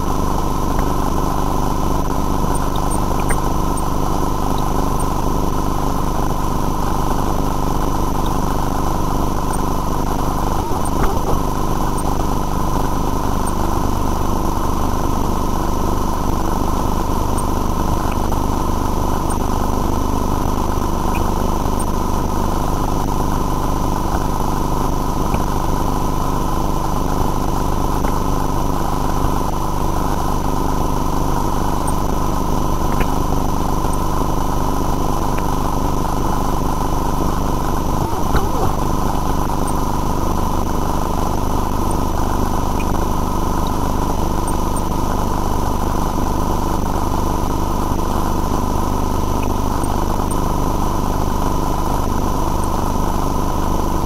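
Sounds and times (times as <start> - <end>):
motor drone with whine: 0.0 - 54.0.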